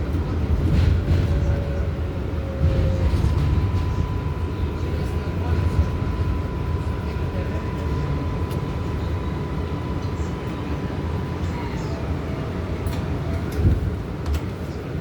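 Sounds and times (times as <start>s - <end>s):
subway car equipment hum: 0.0s - 15.0s.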